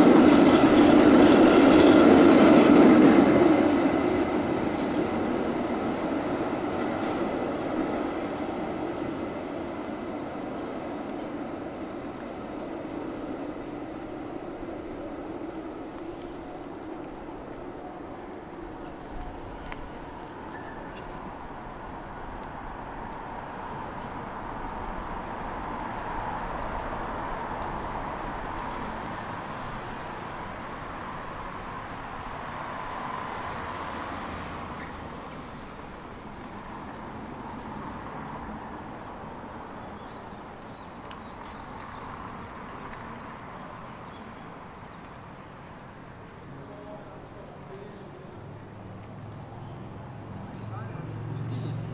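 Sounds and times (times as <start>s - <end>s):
cars passing on road: 0.0s - 51.9s.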